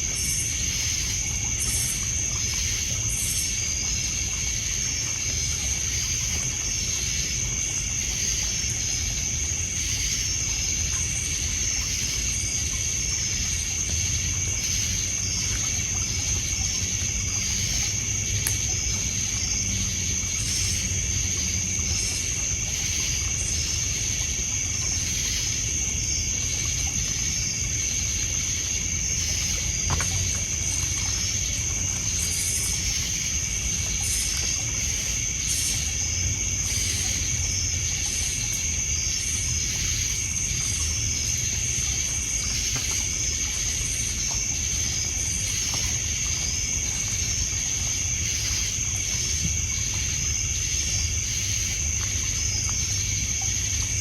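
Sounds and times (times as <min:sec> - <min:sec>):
crickets trilling: 0:00.0 - 0:54.0
insects chirping: 0:00.0 - 0:54.0
water lapping on pebbles: 0:00.0 - 0:54.0.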